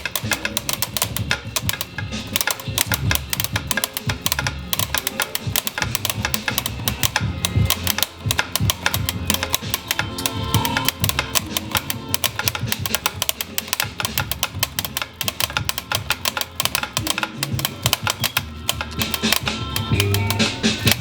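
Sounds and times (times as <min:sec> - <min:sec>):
music with low sustained notes: 0:00.0 - 0:21.0
typewriter keys clacking: 0:00.0 - 0:21.0.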